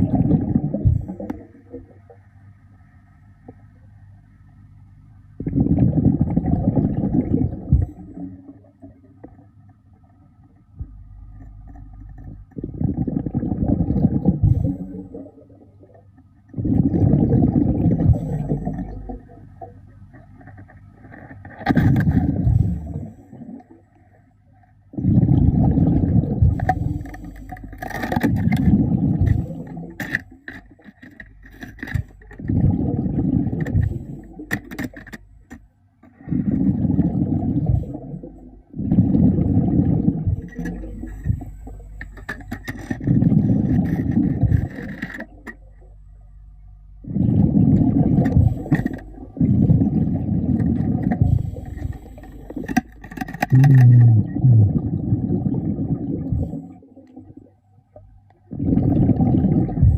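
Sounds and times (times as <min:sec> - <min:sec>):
regulator bubbles underwater: 0:00.0 - 0:02.4, 0:05.2 - 0:59.9.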